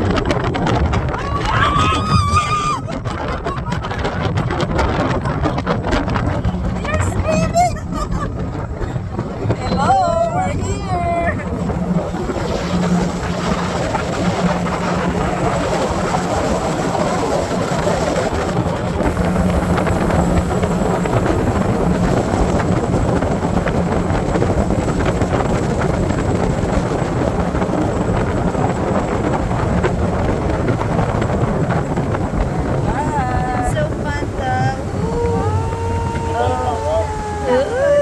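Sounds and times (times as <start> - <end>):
motorboat engine droning: 0.0 - 38.0
water rushing: 0.0 - 38.0
wind rushing: 0.0 - 38.0.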